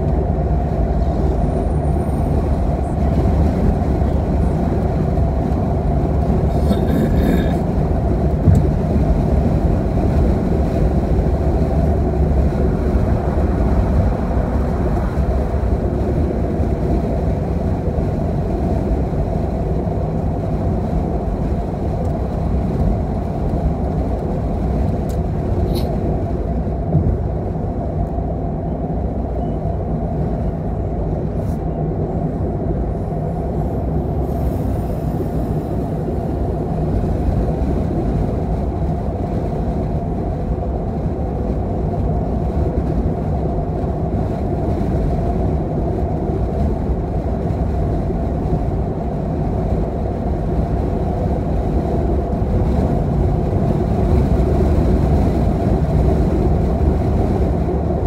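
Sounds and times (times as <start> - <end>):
tyre and engine rumble in car: 0.0 - 58.0.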